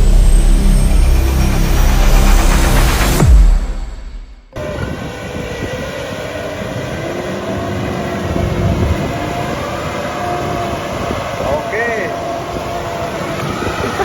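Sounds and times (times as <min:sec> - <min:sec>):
combine harvester drone: 0:00.0 - 0:14.0.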